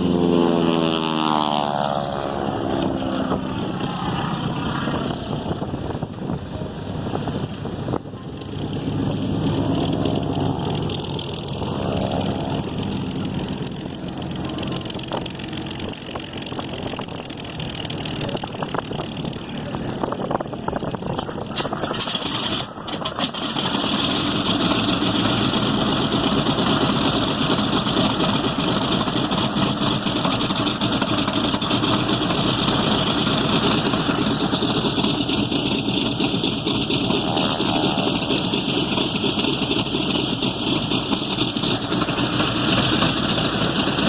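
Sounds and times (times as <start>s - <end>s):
radial aircraft engine running: 0.0s - 44.0s.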